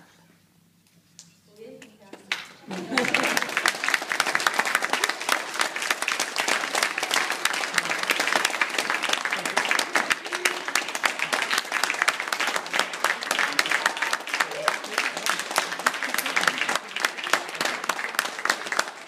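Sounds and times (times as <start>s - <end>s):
audience applauding: 2.6s - 19.0s.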